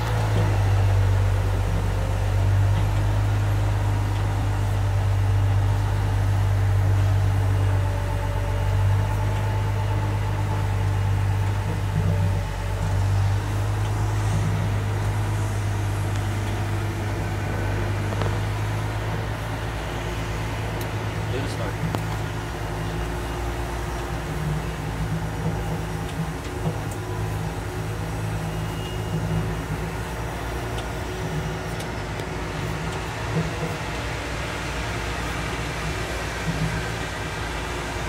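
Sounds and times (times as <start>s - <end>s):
low mechanical drone: 0.0s - 38.0s.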